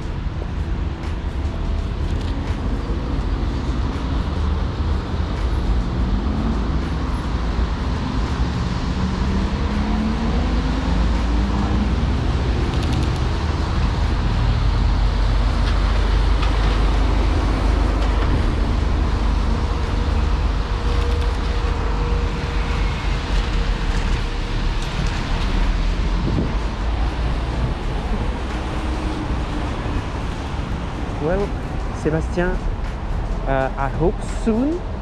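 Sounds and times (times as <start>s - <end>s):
engine low rumble: 0.0s - 35.0s
road traffic: 0.0s - 35.0s.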